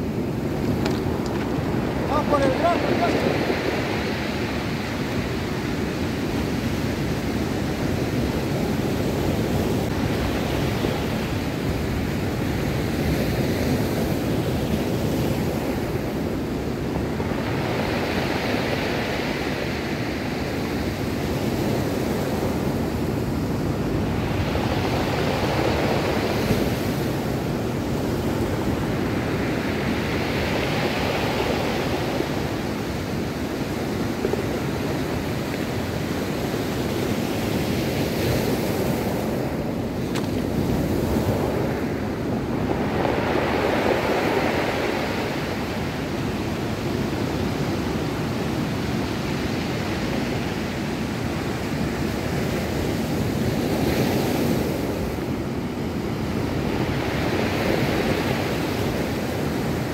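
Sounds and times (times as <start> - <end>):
surf breaking on a cobble beach: 0.0 - 59.9.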